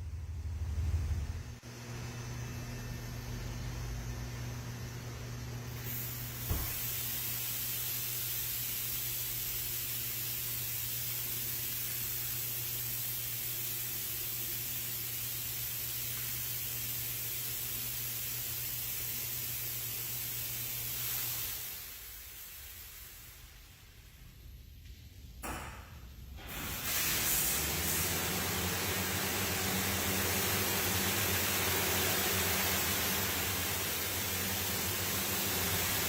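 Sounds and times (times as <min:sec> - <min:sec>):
car wash machine hum: 0:00.0 - 0:36.0.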